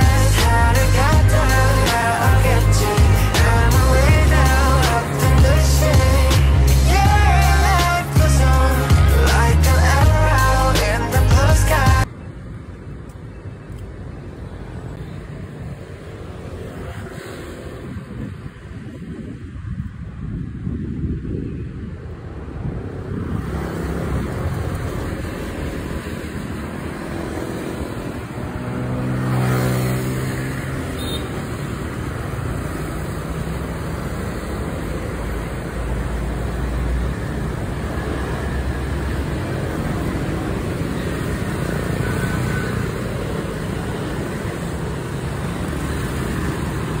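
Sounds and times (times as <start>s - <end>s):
road traffic: 0.0s - 47.0s.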